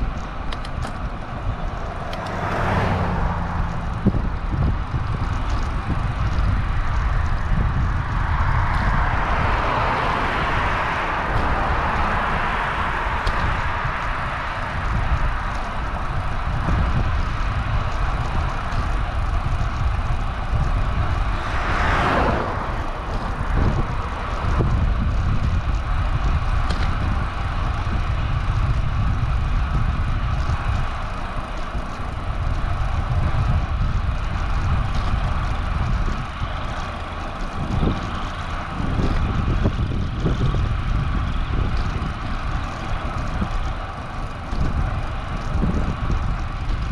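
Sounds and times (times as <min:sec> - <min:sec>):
motor vehicle passing: 0:00.0 - 0:46.9
road noise: 0:00.0 - 0:46.9
wind rumbling on microphone: 0:00.0 - 0:46.9.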